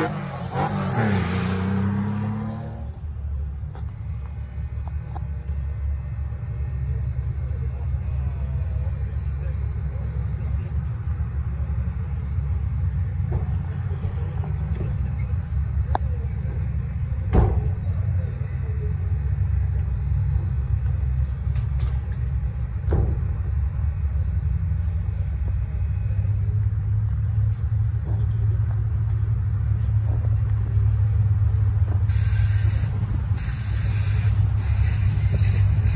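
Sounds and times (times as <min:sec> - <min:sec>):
sports cars engines rumbling: 0:00.0 - 0:35.9.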